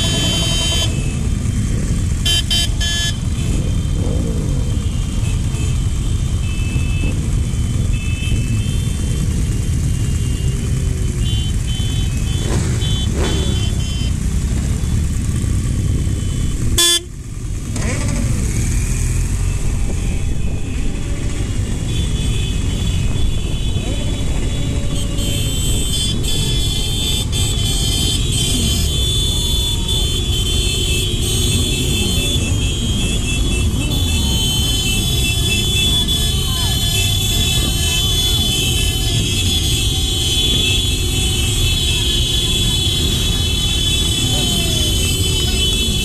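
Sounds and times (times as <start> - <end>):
motorcycle horns tooting: 0.0 - 4.0, 4.6 - 18.5, 19.2 - 46.0
motorcycle engines rumbling: 0.0 - 46.0
road noise: 0.0 - 46.0.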